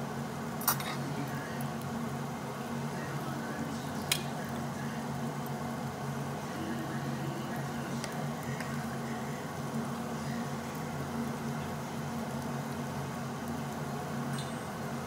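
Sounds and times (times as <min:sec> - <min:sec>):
meat sizzling on a grill: 0:00.0 - 0:15.0
steady low hum: 0:00.0 - 0:15.0.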